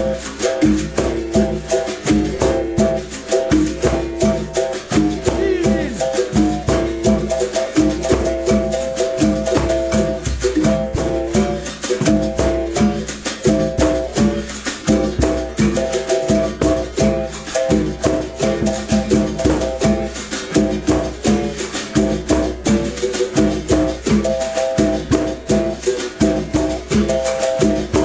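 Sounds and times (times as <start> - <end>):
plucked string instrument: 0.0 - 28.0
shaker rattling: 0.0 - 28.0.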